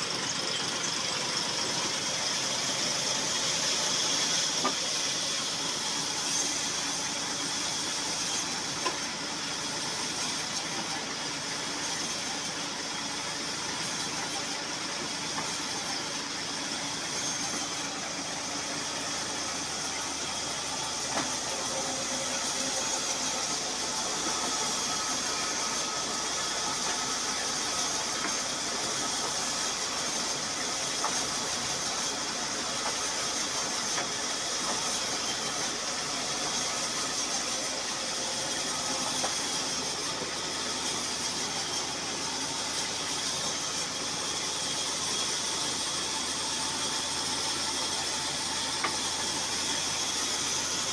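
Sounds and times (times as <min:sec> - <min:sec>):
band saw cutting wood: 0:00.0 - 0:50.9
tractor diesel engine running: 0:00.0 - 0:50.9.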